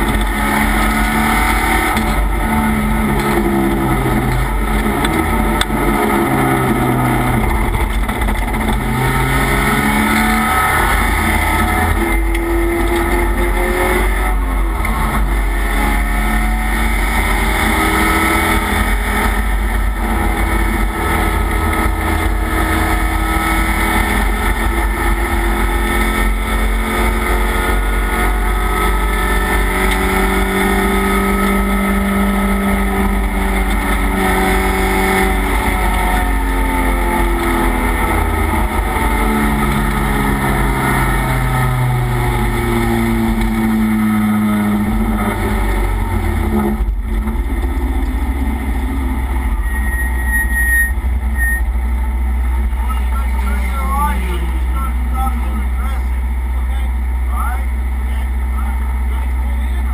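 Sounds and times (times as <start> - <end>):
race car engine revving through gears: 0.0 - 59.9.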